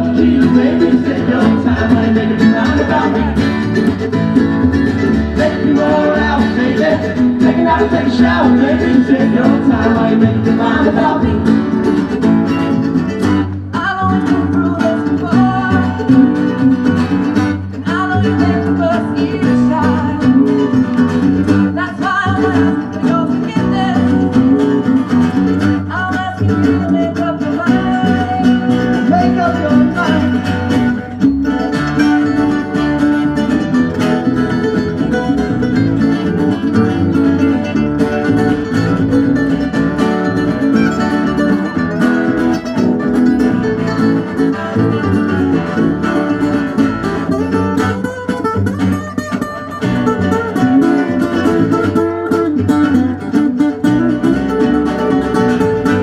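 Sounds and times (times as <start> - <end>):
acoustic guitars: 0.0 - 56.0
mandolin: 0.0 - 56.0
upright bass: 0.0 - 56.0.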